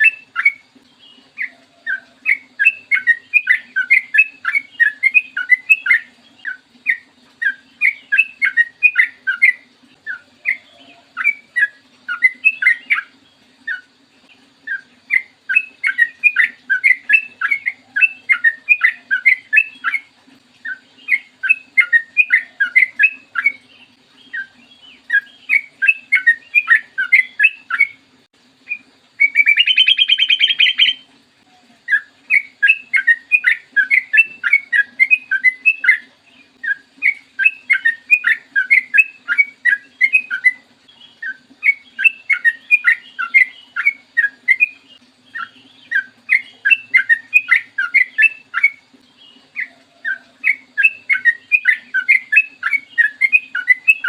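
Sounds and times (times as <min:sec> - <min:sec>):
bird singing rapid chirping runs: 0:00.0 - 0:28.2, 0:28.8 - 0:31.1, 0:31.8 - 0:54.0.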